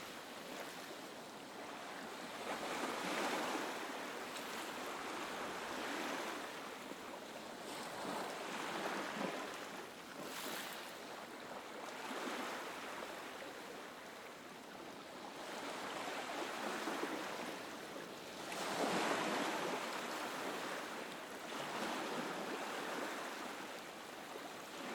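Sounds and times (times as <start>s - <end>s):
gentle ocean waves on sandy beach: 0.0s - 24.9s.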